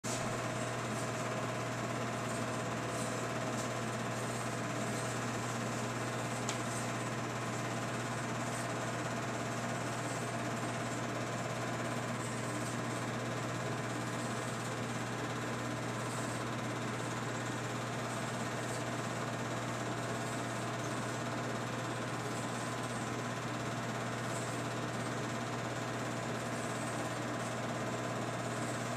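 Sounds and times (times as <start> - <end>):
film projector whirring: 0.0 - 28.9.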